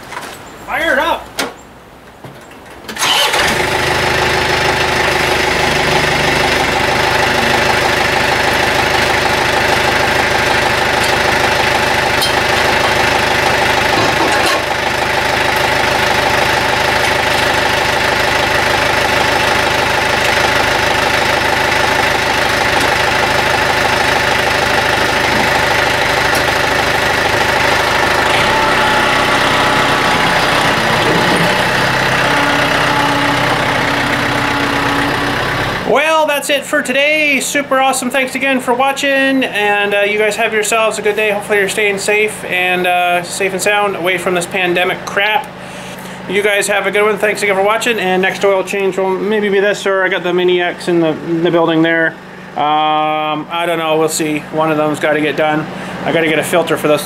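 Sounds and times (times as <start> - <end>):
diesel engine starting and idling: 2.8 - 57.0.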